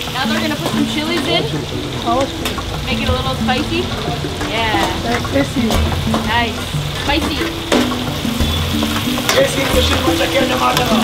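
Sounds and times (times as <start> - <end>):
meat sizzling in a wok: 0.0 - 11.0
metal ladle knocking on wok: 0.0 - 11.0.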